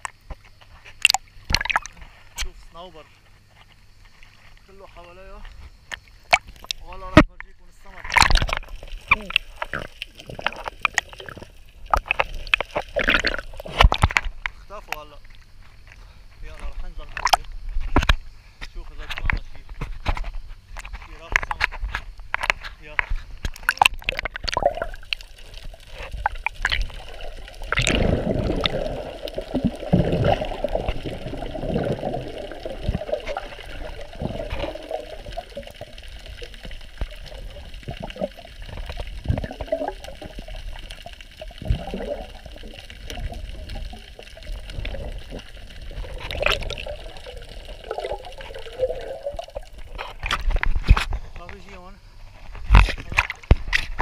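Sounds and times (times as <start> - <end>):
muffled underwater water sloshing: 0.0 - 51.4.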